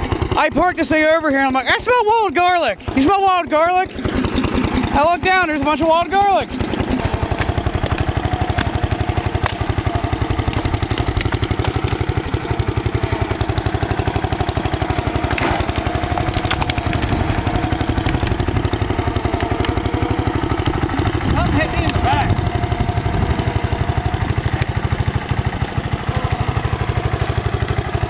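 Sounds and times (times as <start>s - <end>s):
riding mower engine running: 0.0s - 28.0s.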